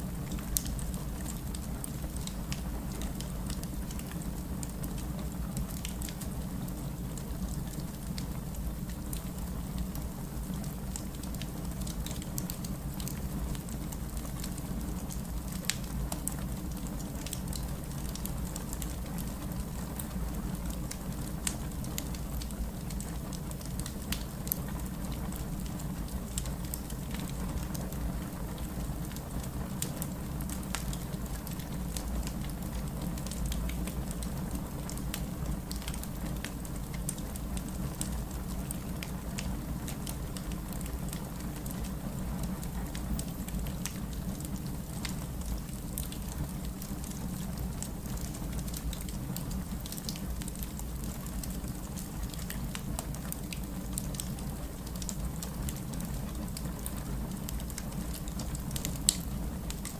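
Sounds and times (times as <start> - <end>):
low rumble and hiss: 0.0 - 59.9
wood fire crackling and popping: 0.1 - 59.9.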